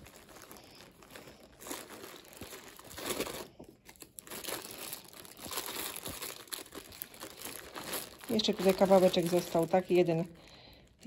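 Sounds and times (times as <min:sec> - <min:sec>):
yarn rustling and crinkling: 0:00.0 - 0:11.0.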